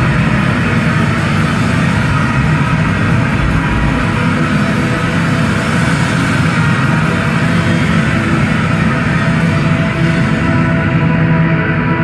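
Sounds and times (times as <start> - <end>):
distorted electric guitars: 0.0 - 12.0.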